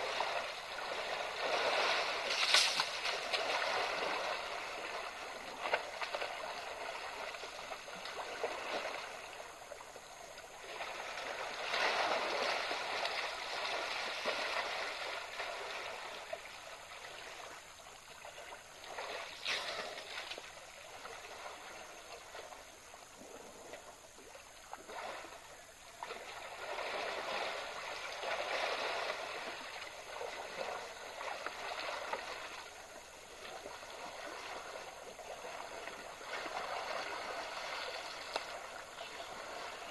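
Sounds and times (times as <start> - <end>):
water sloshing and splashing: 0.0 - 39.9.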